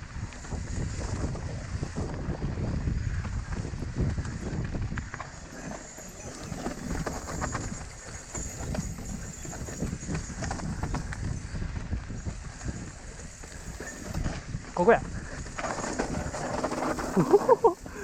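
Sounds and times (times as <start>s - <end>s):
bike tyres rumbling on dirt: 0.0s - 18.0s.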